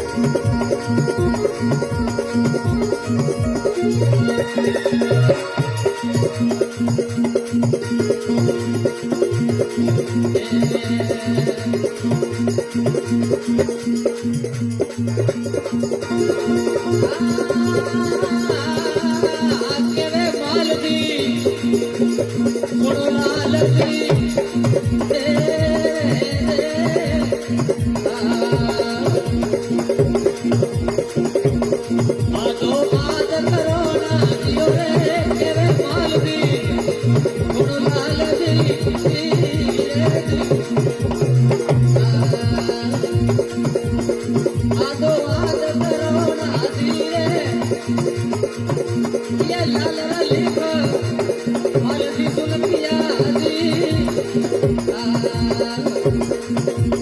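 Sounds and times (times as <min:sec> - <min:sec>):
rattling percussion: 0:00.0 - 0:57.0
steady drum beat: 0:00.0 - 0:57.0.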